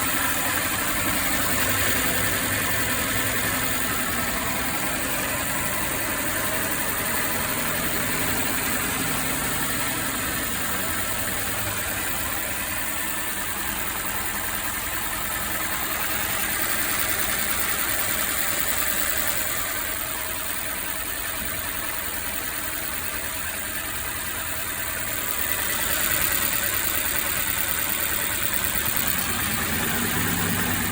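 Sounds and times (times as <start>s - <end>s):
engine idling with misfire: 0.0s - 30.9s.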